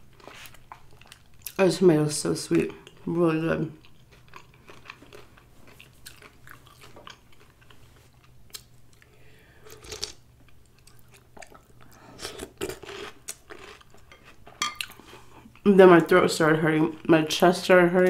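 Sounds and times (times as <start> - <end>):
chewing and wet mouth sounds: 0.1 - 1.6, 2.6 - 15.7.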